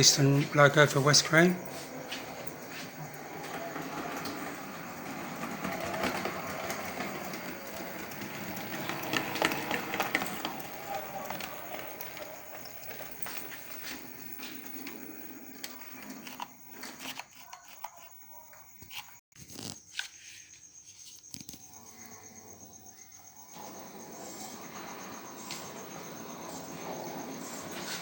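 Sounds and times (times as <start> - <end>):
model locomotive motor whirring: 0.0 - 19.2, 23.5 - 28.0
wheels clicking over rail joints: 0.0 - 19.2, 23.2 - 28.0.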